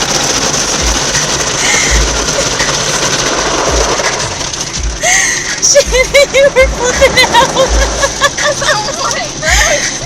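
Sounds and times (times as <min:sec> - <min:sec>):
car wash spraying and scrubbing: 0:00.0 - 0:10.0.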